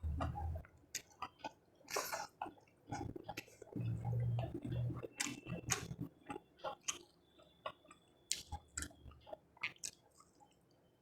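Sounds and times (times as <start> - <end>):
chewing and mouth sounds: 0.2 - 10.5.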